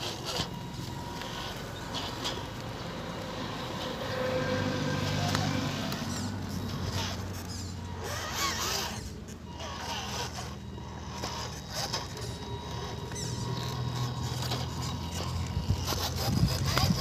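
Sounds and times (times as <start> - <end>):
toy truck motor humming: 0.0 - 17.0.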